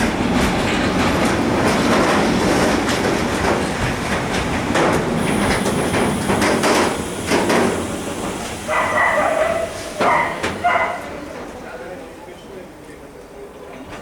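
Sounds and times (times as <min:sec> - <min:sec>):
freight wagons rolling on rails: 0:00.0 - 0:13.0.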